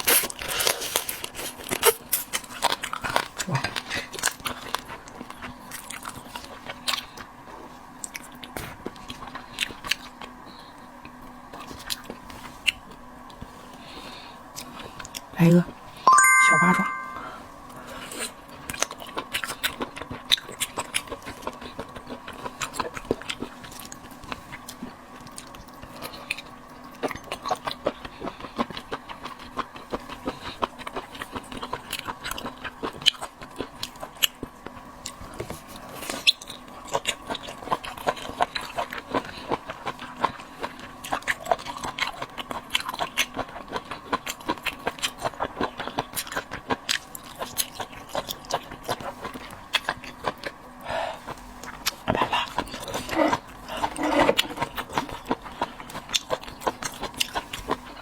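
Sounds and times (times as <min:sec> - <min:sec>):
wet chewing and lip-smacking: 0:00.0 - 0:15.3, 0:18.2 - 0:58.0.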